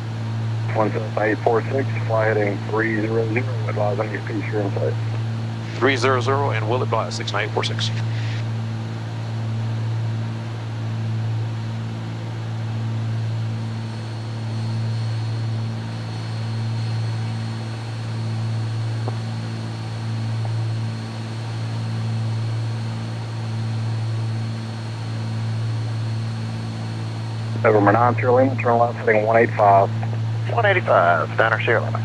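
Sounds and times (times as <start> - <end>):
propeller aircraft cabin drone: 0.0 - 32.0.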